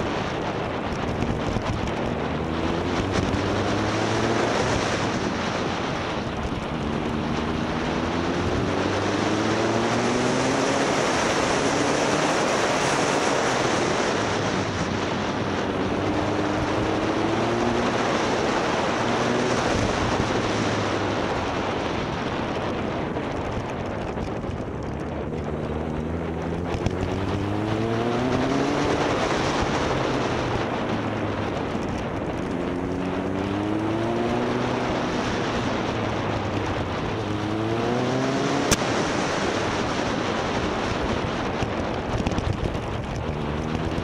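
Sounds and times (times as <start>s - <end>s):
motorcycle engine shifting gears: 0.0s - 44.0s
wind noise on microphone: 0.0s - 44.0s.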